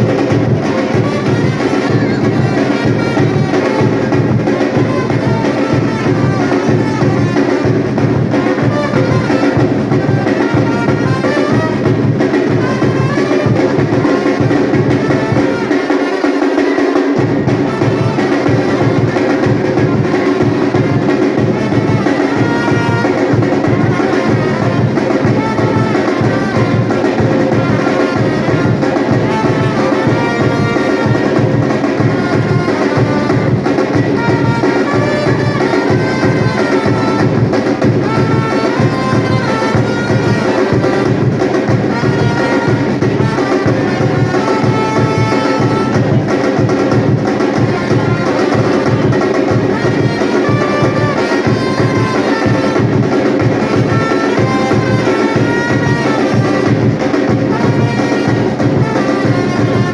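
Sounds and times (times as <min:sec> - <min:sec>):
fast drum rhythm: 0:00.0 - 0:59.9.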